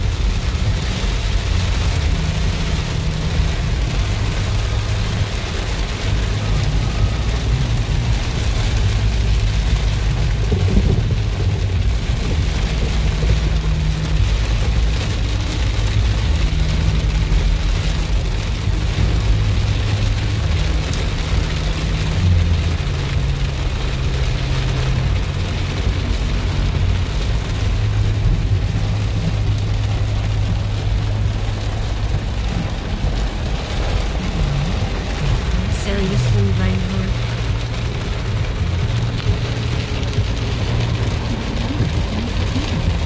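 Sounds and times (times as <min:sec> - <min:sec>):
car engine drone: 0:00.0 - 0:43.0
heavy rain on car roof: 0:00.0 - 0:43.0
tyres on wet road: 0:00.0 - 0:43.0.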